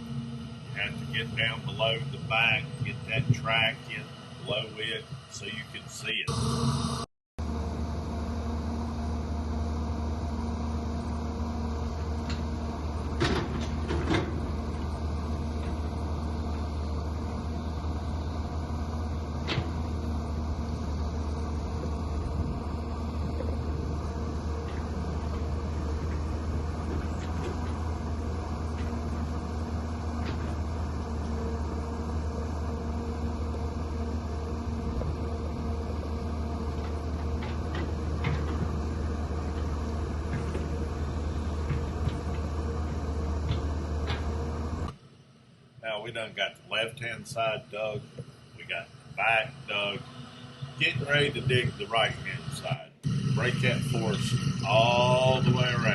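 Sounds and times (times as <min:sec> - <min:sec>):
excavator engine droning: 0:00.0 - 0:55.9.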